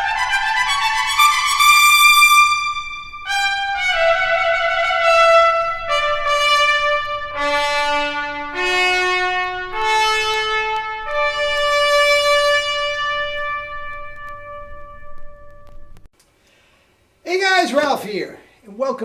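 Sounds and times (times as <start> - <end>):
trumpet playing long notes: 0.0 - 16.1.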